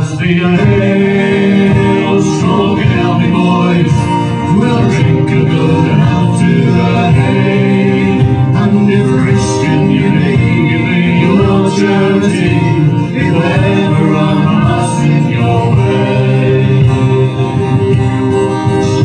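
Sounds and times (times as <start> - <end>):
live folk band playing: 0.0 - 19.0
person singing: 0.0 - 19.0.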